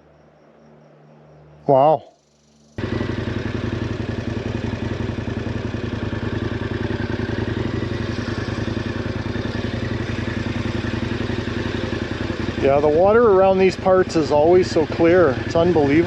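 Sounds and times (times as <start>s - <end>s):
motorcycle engine running: 2.2s - 16.0s.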